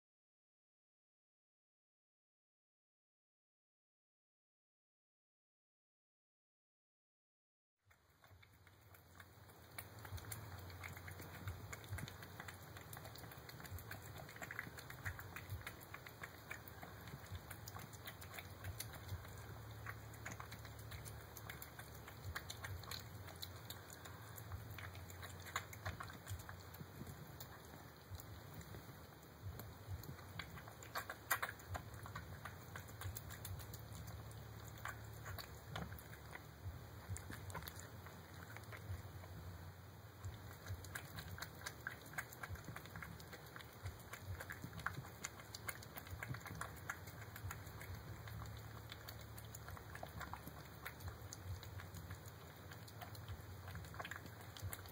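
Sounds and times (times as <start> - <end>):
cat chewing and licking: 7.9 - 54.9
low steady hum: 7.9 - 54.9.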